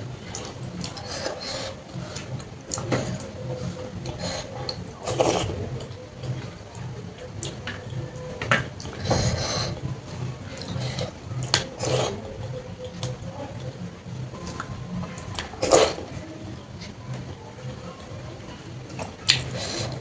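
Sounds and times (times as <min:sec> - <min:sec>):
chewing and wet mouth noises: 0:00.2 - 0:20.0.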